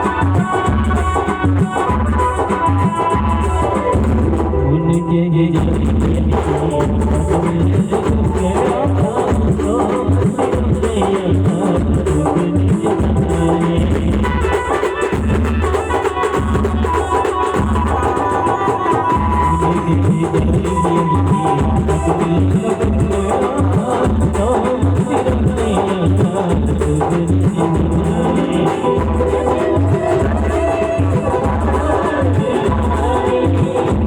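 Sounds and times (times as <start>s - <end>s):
heavy steady drum beat: 0.0s - 5.0s, 5.6s - 34.0s.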